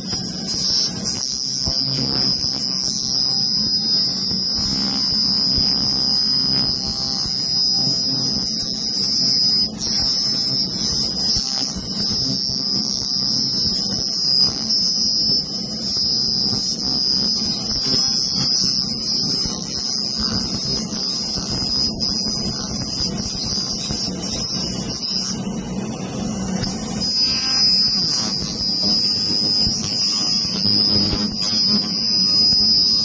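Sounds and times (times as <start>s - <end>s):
faint crackle: 0.0s - 25.4s, 26.5s - 33.0s
laser high-pitched whine: 0.0s - 33.0s.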